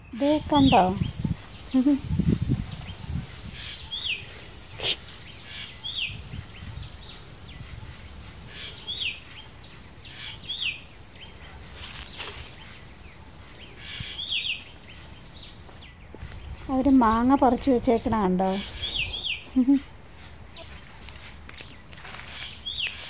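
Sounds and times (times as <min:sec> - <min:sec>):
bird calling: 0:00.0 - 0:23.0
outdoor background noise: 0:00.0 - 0:23.0.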